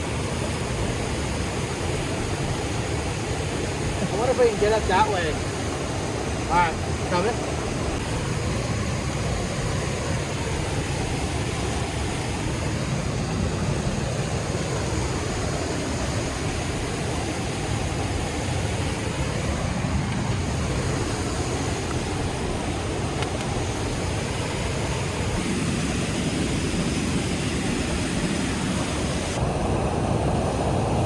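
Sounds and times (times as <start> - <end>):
river rapids rushing: 0.0 - 31.0.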